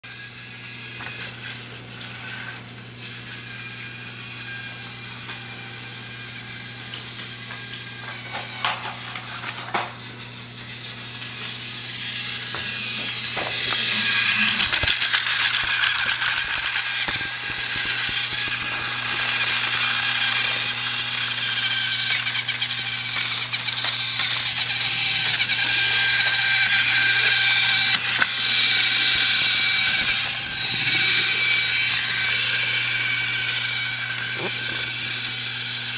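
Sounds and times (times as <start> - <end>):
toy train motor whirring: 0.1 - 35.9
wheels rattling over plastic track: 1.0 - 35.9.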